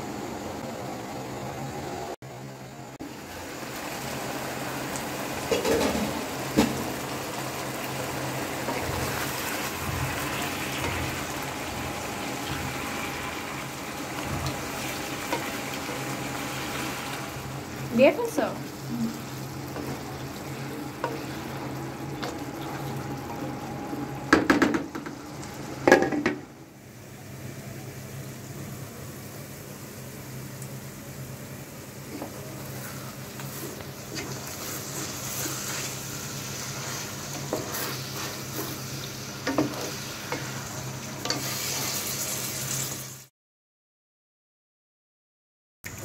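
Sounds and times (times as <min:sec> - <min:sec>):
meat and onions sizzling in pan: 0:02.9 - 0:43.3.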